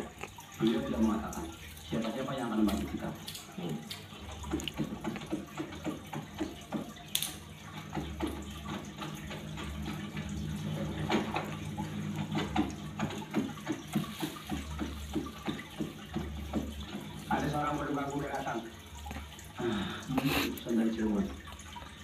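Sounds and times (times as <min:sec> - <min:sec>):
aquarium water splashing and bubbling: 0:00.0 - 0:22.0.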